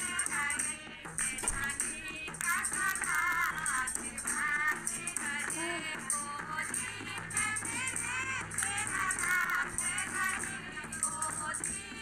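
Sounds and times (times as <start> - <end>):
high shimmering percussion: 0.0 - 12.0.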